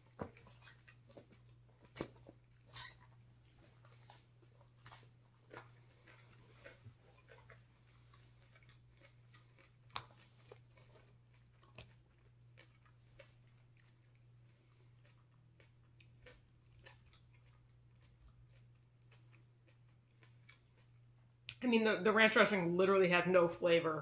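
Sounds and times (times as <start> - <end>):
chewing salad: 0.0 - 21.6.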